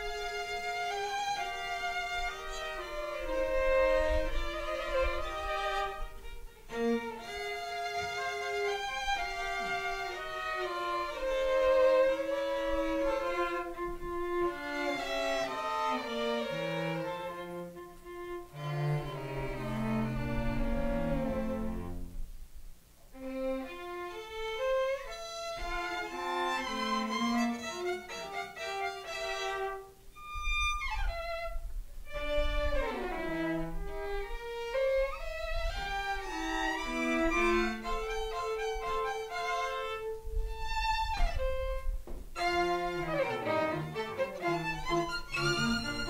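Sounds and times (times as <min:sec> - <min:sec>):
violin melody: 0:00.0 - 0:22.3, 0:23.1 - 0:46.0
cello: 0:00.0 - 0:22.4, 0:23.0 - 0:46.0.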